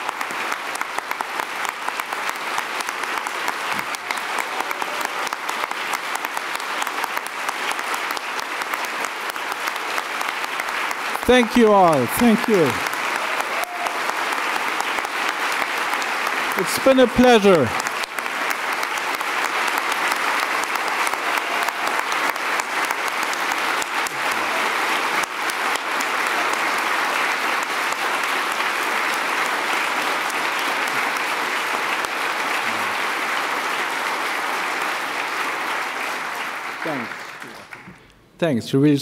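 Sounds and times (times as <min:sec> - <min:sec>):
audience applause: 0:00.0 - 0:38.0.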